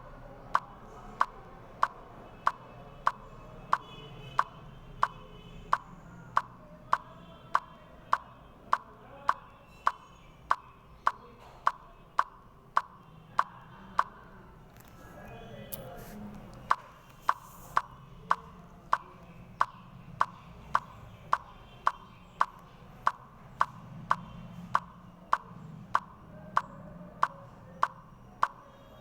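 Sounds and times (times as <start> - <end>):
clock-like ticking: 0.5 - 14.2, 16.6 - 28.6.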